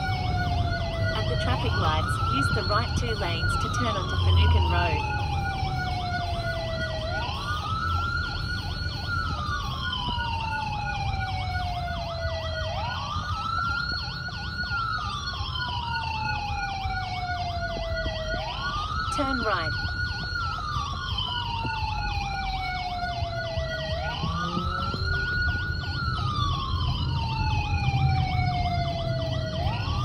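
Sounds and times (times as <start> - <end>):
fast siren warble: 0.0 - 30.0
road noise inside a car: 0.0 - 30.0
siren wail: 0.0 - 30.0.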